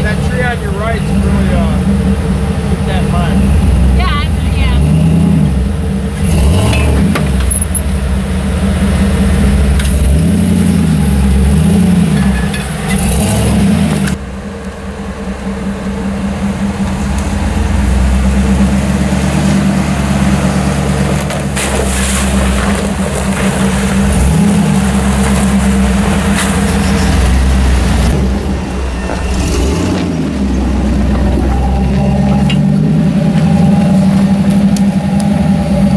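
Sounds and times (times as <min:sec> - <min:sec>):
off-road engine revving: 0:00.0 - 0:35.9.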